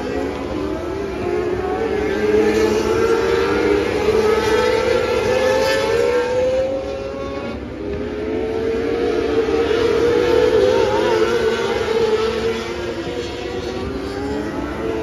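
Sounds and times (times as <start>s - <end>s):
racing car engines high revs: 0.0s - 15.0s.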